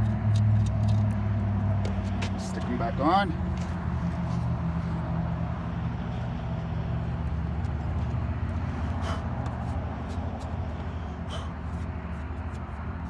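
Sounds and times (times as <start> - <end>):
engine idling low hum: 0.0 - 13.0.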